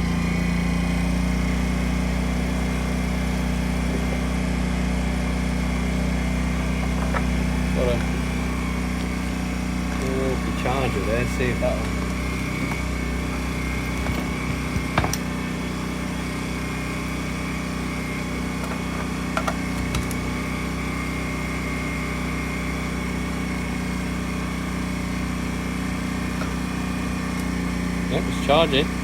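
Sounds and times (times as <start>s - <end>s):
generator engine running: 0.0s - 29.0s.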